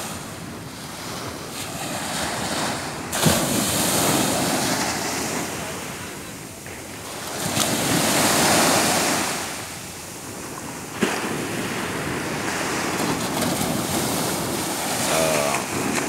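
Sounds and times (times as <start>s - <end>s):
waves breaking on shore: 0.0s - 16.0s
wind buffeting microphone: 0.0s - 16.0s.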